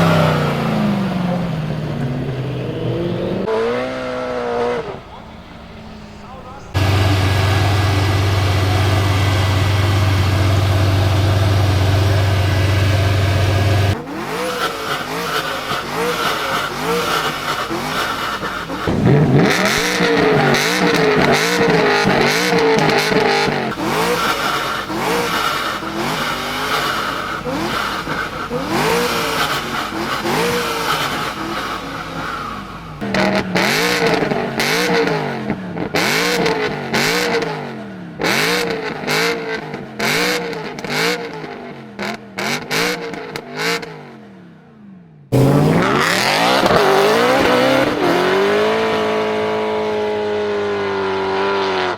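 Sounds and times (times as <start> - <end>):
car engine droning and revving: 0.0 - 51.9.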